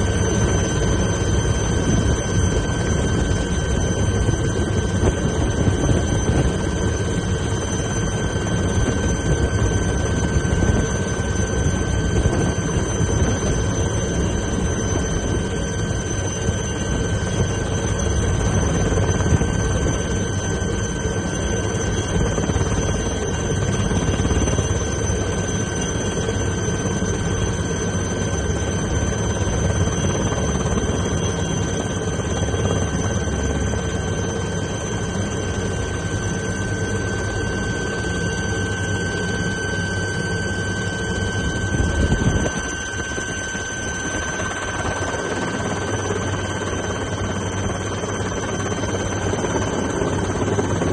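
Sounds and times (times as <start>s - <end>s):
helicopter engine and rotor: 0.0s - 50.9s.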